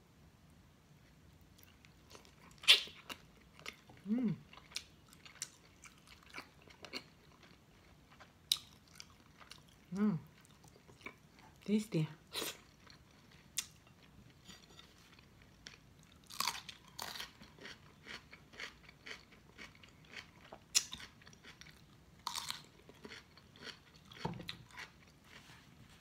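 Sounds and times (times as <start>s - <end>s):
chewing: 1.6s - 11.7s, 12.4s - 25.5s.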